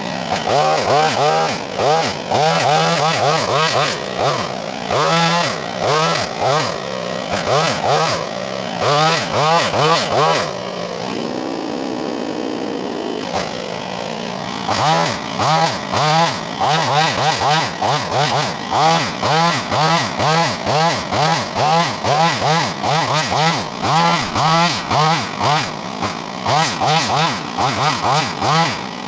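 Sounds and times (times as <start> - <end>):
hedge trimmer engine revving: 0.0 - 29.0.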